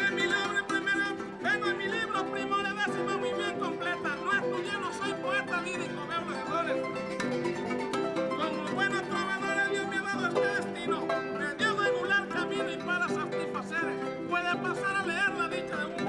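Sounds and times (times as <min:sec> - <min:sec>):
strummed strings: 0:00.0 - 0:16.0.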